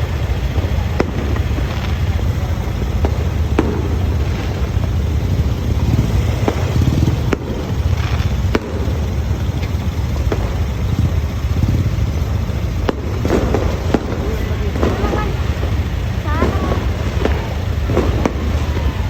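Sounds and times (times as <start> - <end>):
fireworks pops: 0.0 - 19.0
low rumble: 0.0 - 19.0.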